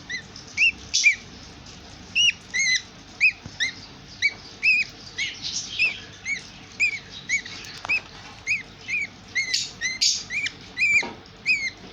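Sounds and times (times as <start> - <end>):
chicks begging chirps: 0.0 - 11.9.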